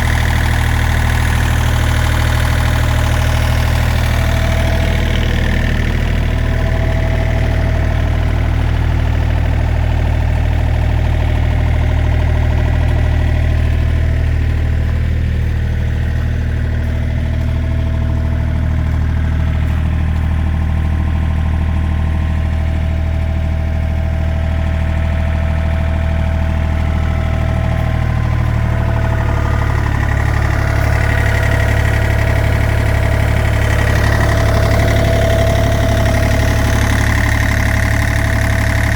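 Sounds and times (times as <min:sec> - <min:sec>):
diesel excavator idling: 0:00.0 - 0:38.9.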